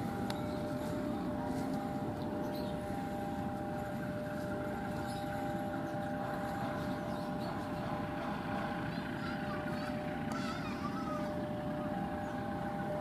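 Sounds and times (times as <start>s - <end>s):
constant high whine: 0.0s - 13.0s
train rumbling past: 0.0s - 13.0s.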